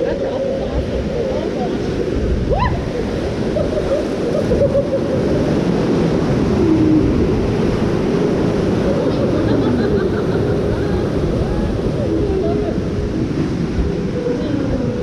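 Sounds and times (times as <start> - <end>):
rush of churning water: 0.0 - 15.0.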